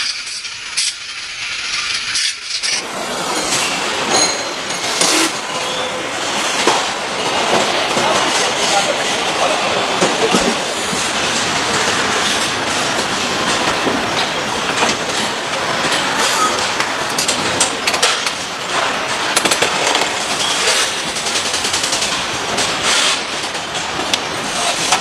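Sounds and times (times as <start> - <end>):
machinery clatter: 0.0 - 25.0.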